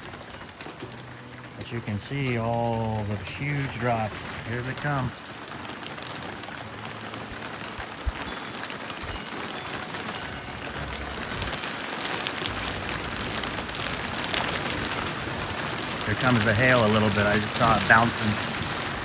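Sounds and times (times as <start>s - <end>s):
heavy rain hitting surfaces: 0.0s - 19.0s.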